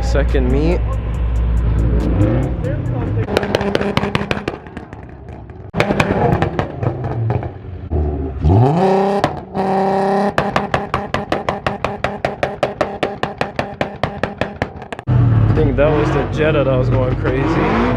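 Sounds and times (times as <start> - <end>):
exhaust crackling and popping: 0.0 - 17.5
car engine revving: 0.0 - 17.9.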